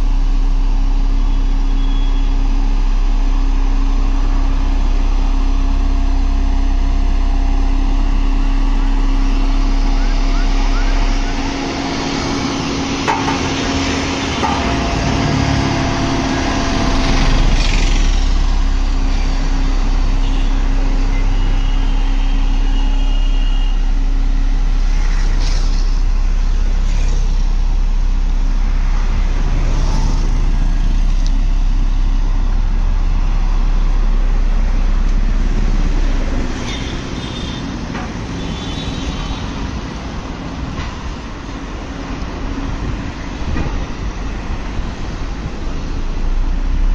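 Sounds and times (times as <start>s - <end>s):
low drone: 0.0s - 46.9s
road roller diesel engine: 0.0s - 46.9s.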